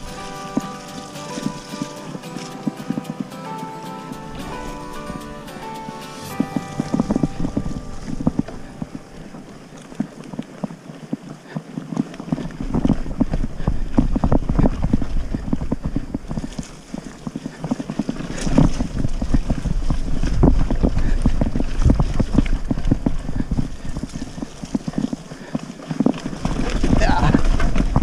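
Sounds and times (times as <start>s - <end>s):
mountain bike rattling: 0.0s - 28.0s
wind rumbling on microphone: 4.3s - 28.0s.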